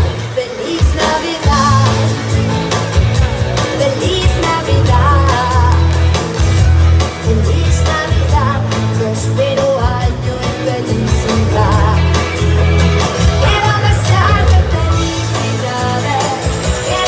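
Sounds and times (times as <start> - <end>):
woman singing pop song: 0.0 - 2.4, 3.6 - 12.6, 13.2 - 17.0
amplified backing music with bass: 0.0 - 17.0.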